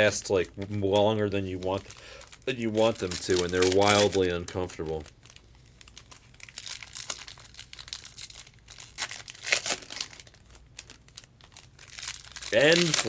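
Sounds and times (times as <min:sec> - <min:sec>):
card packs crinkling and tearing: 0:00.0 - 0:13.0.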